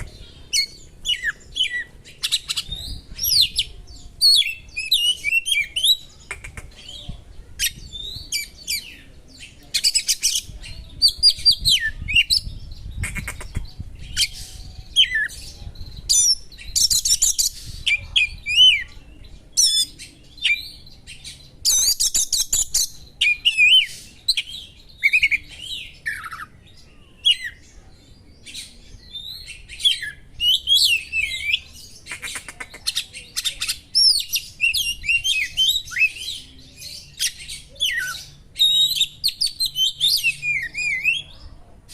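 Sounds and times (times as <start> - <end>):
songbird singing varied song: 0.0 - 41.9.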